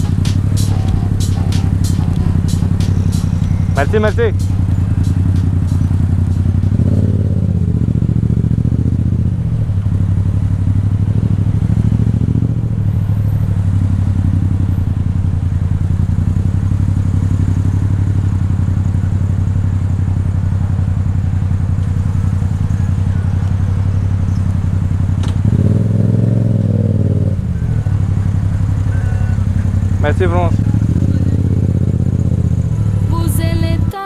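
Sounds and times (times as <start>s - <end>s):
motorcycle engine running at low revs: 0.0s - 34.0s.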